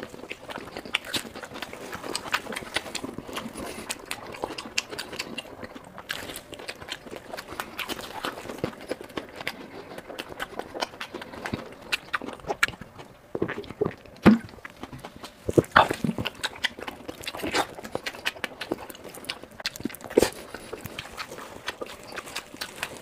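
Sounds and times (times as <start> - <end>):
chewing and biting food: 0.0 - 23.0.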